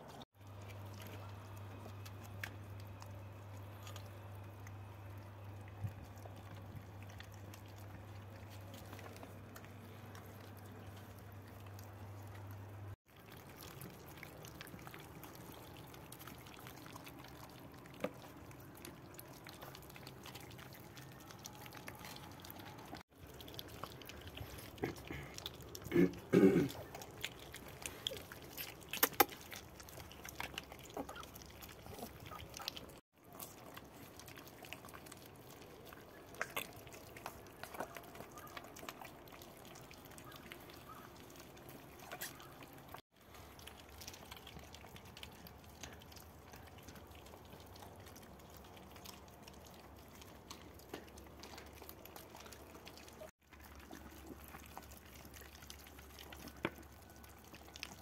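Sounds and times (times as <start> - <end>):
puppies chewing and smacking: 0.0 - 58.0.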